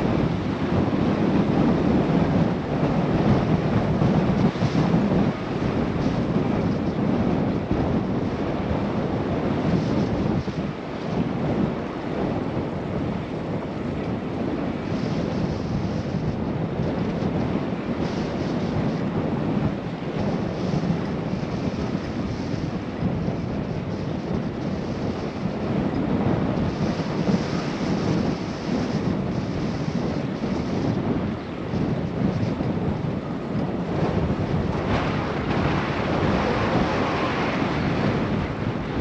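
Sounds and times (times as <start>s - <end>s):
wind rushing over microphone: 0.0s - 39.0s.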